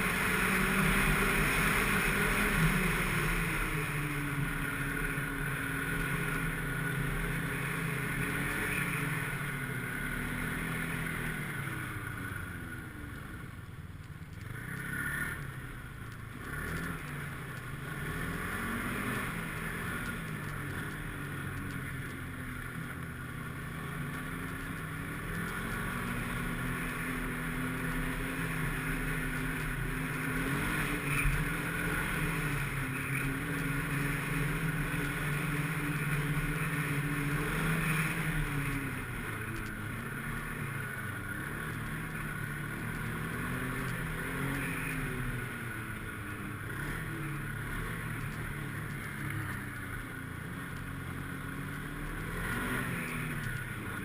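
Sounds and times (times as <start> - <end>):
snowmobile engine running: 0.0 - 13.6, 14.4 - 54.0.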